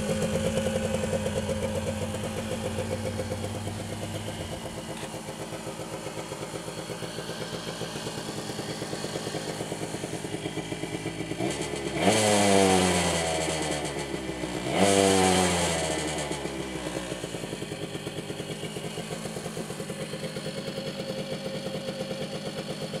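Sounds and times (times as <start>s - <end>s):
three-wheeler engine idling and revving: 0.0s - 23.0s.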